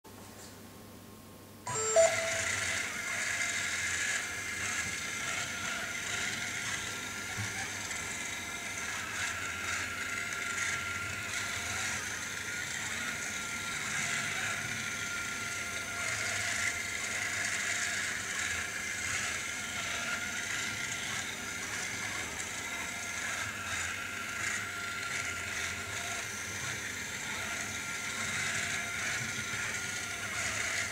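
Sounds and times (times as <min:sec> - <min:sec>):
small robot motors whirring: 0:01.7 - 0:30.9.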